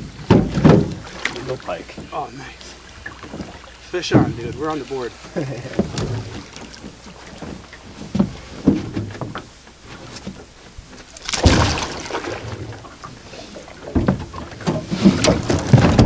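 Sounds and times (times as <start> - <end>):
gear knocking and thumping in boat: 0.0 - 16.0.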